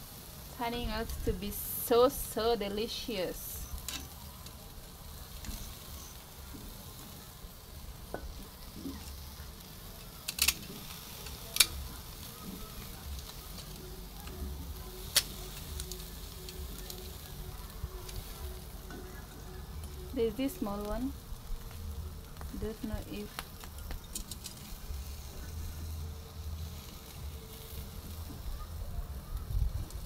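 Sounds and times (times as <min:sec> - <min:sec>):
meat sizzling on a grill: 0:00.0 - 0:30.0.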